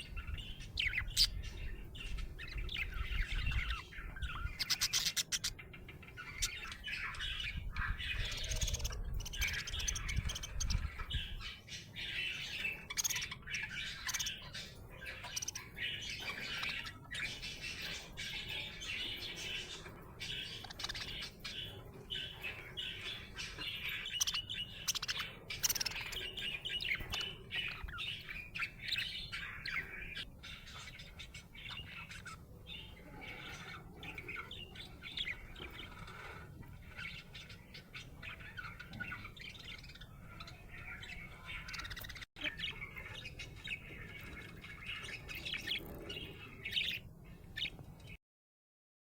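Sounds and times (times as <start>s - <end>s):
budgerigar chirping: 0.0s - 47.8s.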